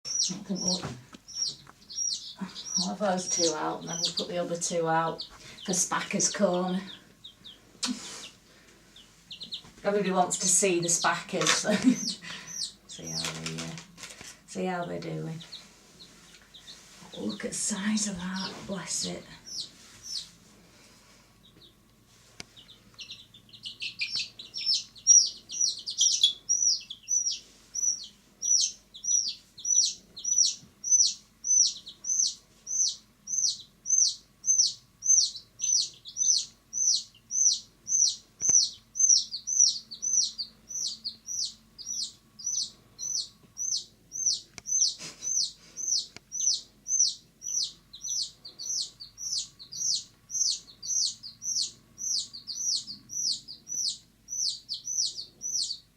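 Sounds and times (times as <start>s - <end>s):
chick peeping: 0.1s - 13.8s, 14.9s - 20.4s, 21.4s - 55.9s.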